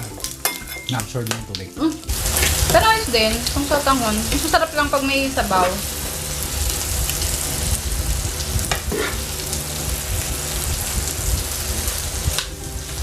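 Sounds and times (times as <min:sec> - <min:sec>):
food sizzling on electric grill: 0:00.0 - 0:13.0.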